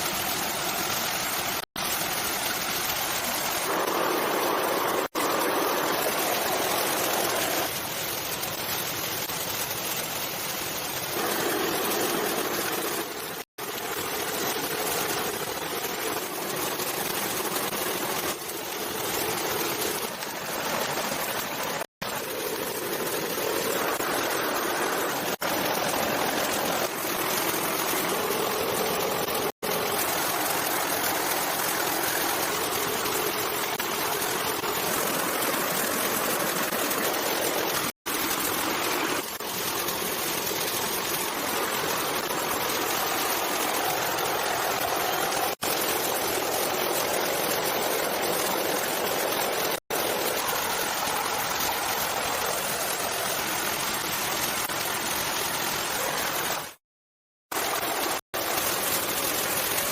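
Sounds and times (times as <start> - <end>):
running water rushing: 0.0 - 56.8, 57.5 - 59.9.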